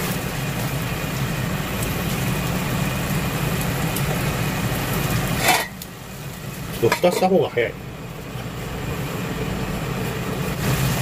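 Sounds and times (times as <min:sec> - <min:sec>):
water hissing in frying pan: 0:00.0 - 0:11.0.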